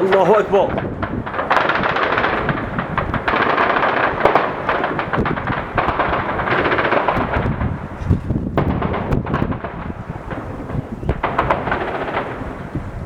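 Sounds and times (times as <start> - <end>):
automatic gunfire bursts: 0.0 - 7.8, 8.6 - 12.8.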